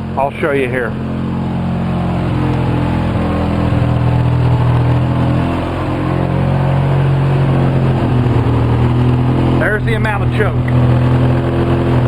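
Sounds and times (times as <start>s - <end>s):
engine idling roughly: 0.0s - 12.0s.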